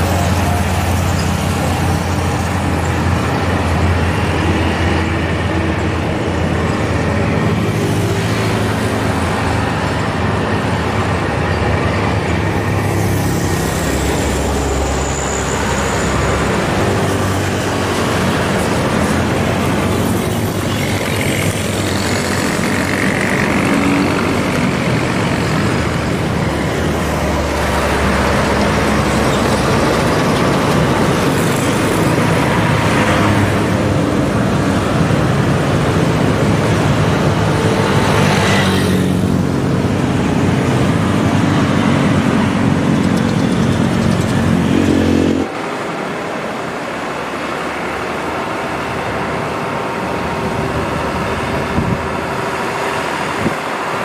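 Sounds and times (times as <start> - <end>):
diesel truck engines: 0.0 - 54.0
vehicles swishing past: 0.0 - 54.0.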